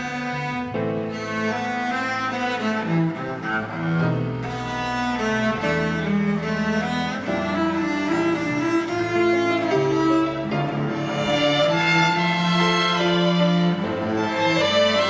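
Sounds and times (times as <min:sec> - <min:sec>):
violin ensemble playing: 0:00.0 - 0:15.0.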